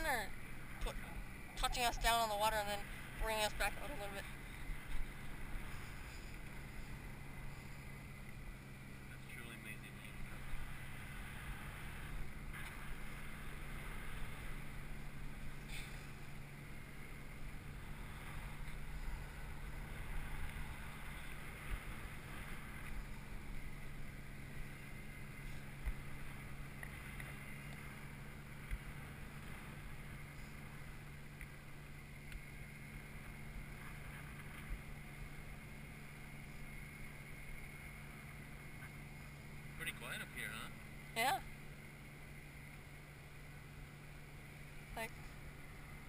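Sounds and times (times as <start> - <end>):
constant low drone: 0.0 - 46.0
soft wind buffets: 0.0 - 46.0.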